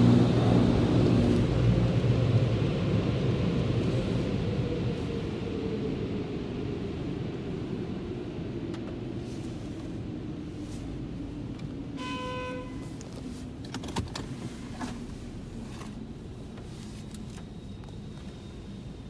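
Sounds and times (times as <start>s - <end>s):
car cabin low rumble: 0.0s - 19.0s.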